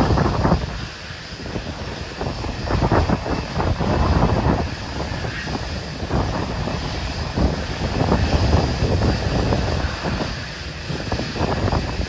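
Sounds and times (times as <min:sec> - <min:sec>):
jet engines rushing: 0:00.0 - 0:12.0
wind buffeting microphone: 0:00.0 - 0:12.0.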